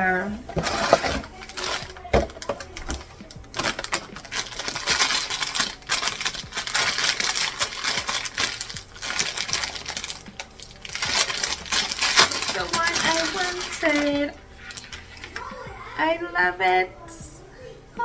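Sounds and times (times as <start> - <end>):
packaging crinkling and rustling: 0.5 - 15.5.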